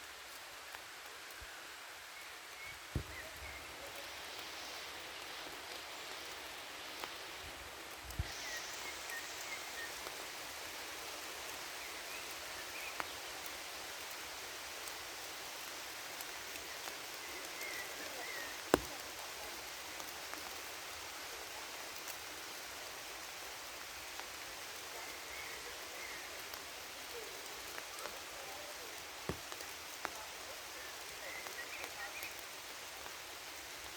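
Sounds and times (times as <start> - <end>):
rain falling on foliage: 0.0 - 33.9.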